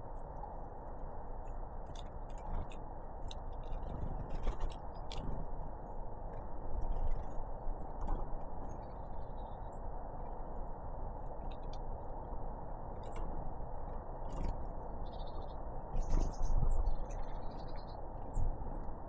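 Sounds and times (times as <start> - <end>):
birds pecking at seed: 0.0 - 19.0
low background rumble: 0.0 - 19.0.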